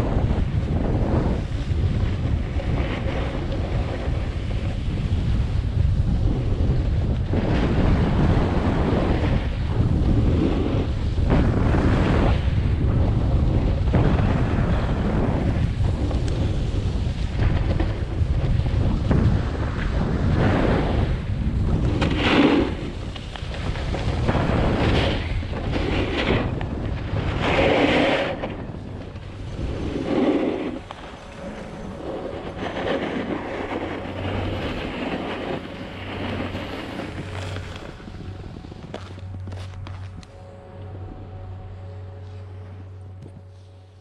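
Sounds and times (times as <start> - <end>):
snowboard edge scraping snow: 0.0 - 40.6
wind buffeting microphone: 0.0 - 44.0.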